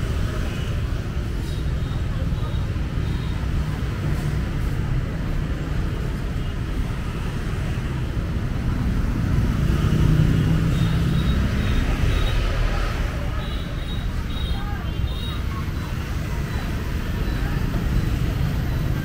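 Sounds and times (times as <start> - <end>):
scooters and cars passing: 0.0 - 19.0.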